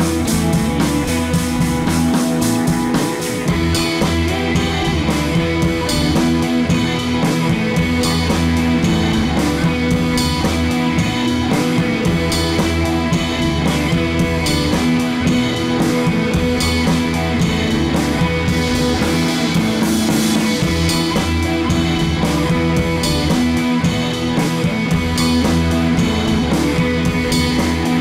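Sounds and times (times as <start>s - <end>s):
rock music with guitar and drums: 0.0s - 28.0s.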